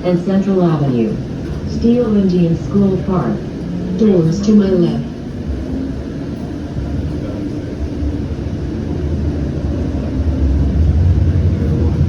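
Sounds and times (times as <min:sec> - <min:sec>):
light rail car rumble: 0:00.0 - 0:12.0.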